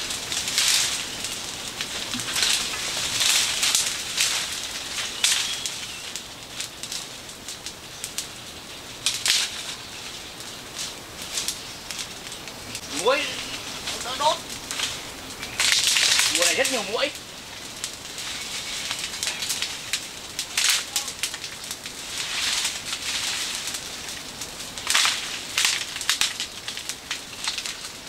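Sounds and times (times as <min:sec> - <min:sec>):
fire crackling: 0:00.0 - 0:28.0
sharp pops of burning: 0:00.0 - 0:28.0.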